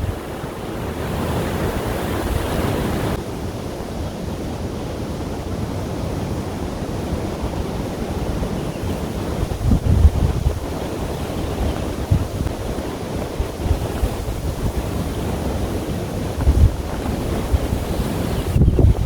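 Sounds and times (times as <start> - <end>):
wind blowing: 0.0 - 19.0
wind gusts on microphone: 0.0 - 19.0.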